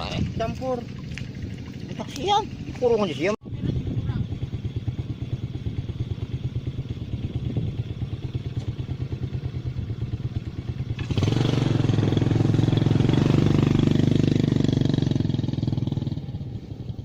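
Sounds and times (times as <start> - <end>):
small engine chugging: 0.0 - 17.0.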